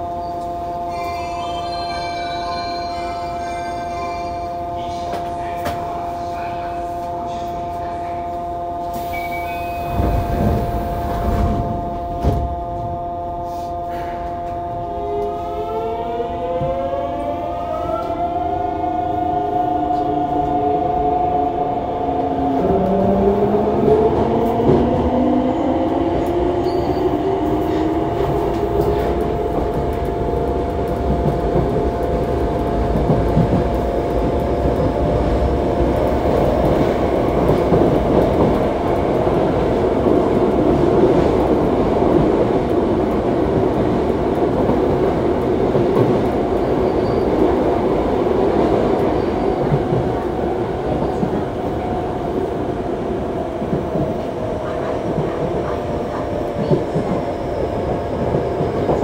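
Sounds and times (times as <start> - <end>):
train inverter whine: 0.0 - 59.0.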